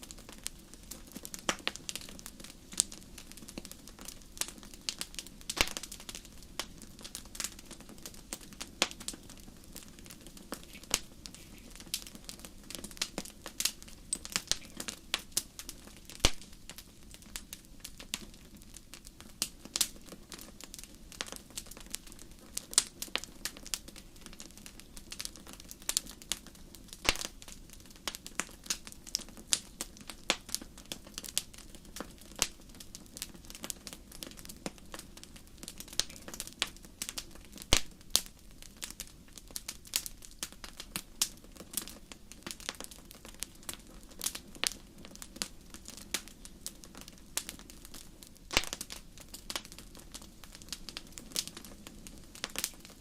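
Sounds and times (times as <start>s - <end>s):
faint steady hiss: 0.0s - 53.0s
wood fire crackling and popping: 0.0s - 53.0s.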